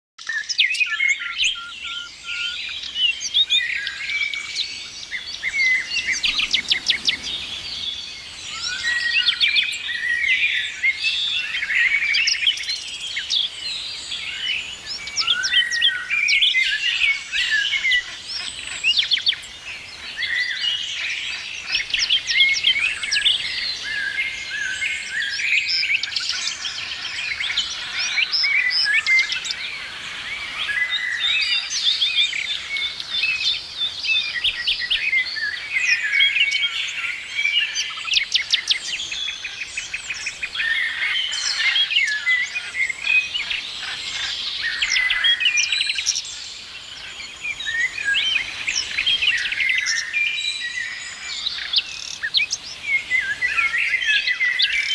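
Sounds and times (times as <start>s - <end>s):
songbirds chirping and trilling: 0.2s - 54.9s.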